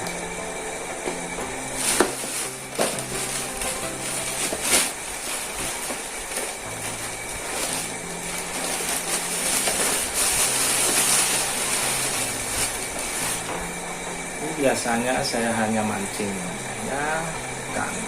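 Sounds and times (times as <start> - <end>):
music with low bass notes: 0.0 - 18.0
steady hiss: 0.0 - 18.0.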